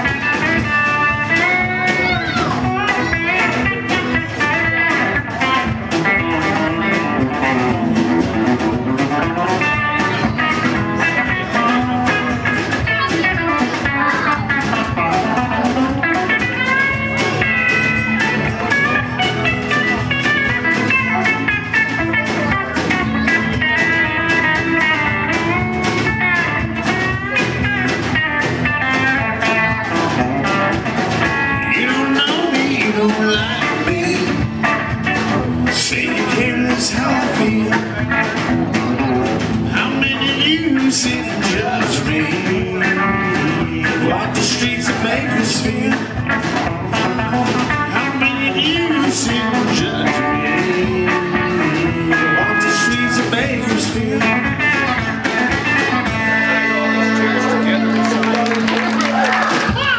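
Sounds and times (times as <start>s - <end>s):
acoustic guitar: 0.0s - 59.9s
bass: 0.0s - 59.9s
electric guitar: 0.0s - 59.9s
steady drum beat: 0.0s - 59.9s.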